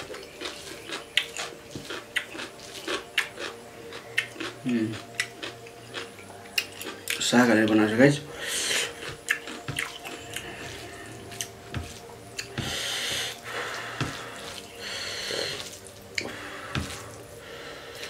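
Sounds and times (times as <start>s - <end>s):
wet chewing and smacking: 0.0s - 7.9s, 8.6s - 18.0s.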